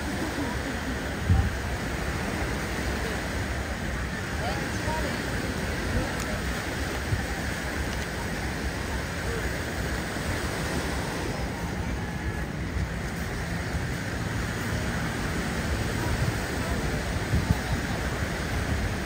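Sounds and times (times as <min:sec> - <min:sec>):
surf washing on shore: 0:00.0 - 0:19.0
wind buffeting microphone: 0:00.0 - 0:19.0.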